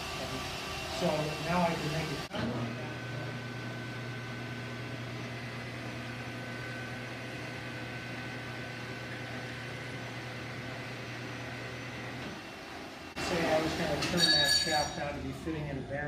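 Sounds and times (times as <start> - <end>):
metal lathe running: 0.0 - 16.0.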